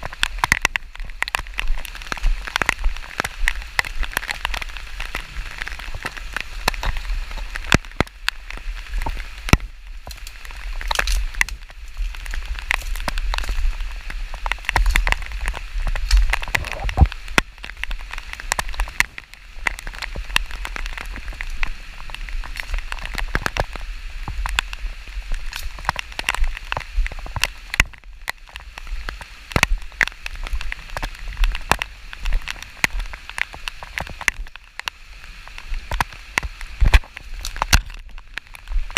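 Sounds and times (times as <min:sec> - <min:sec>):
rain falling: 0:00.0 - 0:38.9
raindrops ticking: 0:00.0 - 0:38.9.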